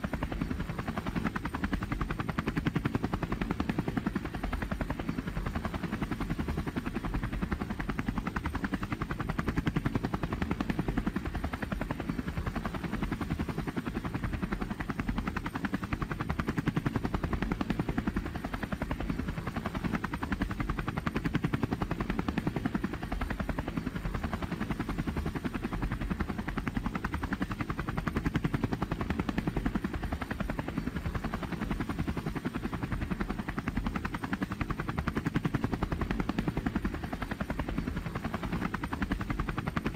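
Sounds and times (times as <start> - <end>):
helicopter rotor chop: 0.0 - 39.9.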